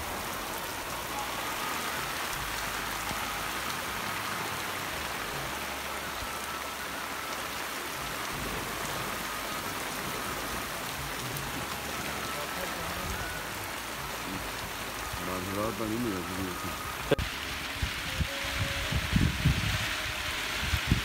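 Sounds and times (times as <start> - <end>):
rain falling on wet ground: 0.0 - 21.0.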